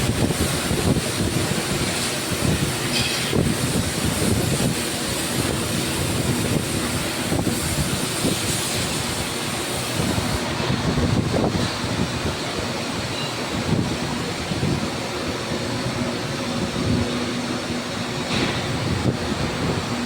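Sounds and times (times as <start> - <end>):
industrial machinery rumble: 0.0 - 20.0.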